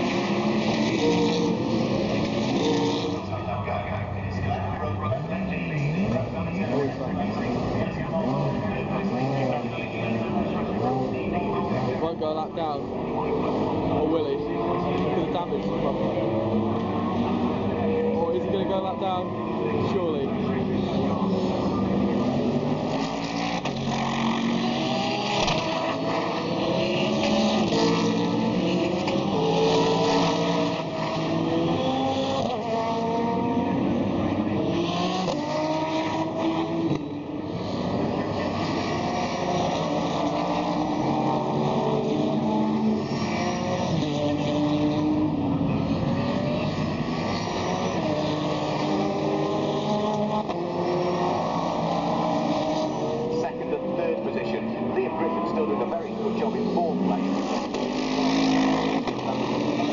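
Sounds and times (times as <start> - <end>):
race cars accelerating past: 5.0 - 59.9.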